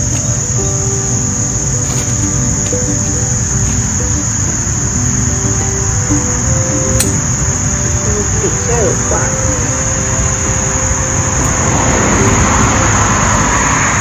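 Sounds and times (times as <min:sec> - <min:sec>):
insects chirring: 0:00.0 - 0:14.0
low rumble: 0:00.0 - 0:14.0.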